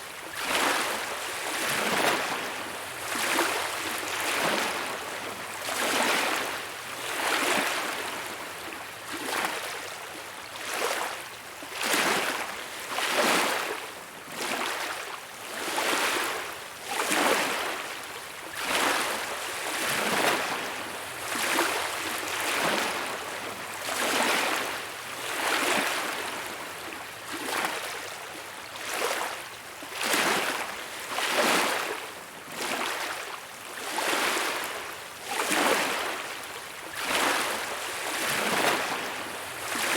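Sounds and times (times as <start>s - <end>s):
waves washing on beach: 0.0s - 39.9s.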